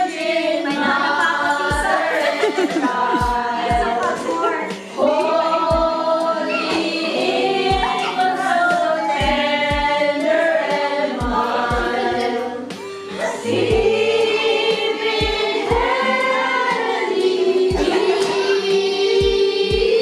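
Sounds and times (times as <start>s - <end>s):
choir-like vocals: 0.0s - 20.0s.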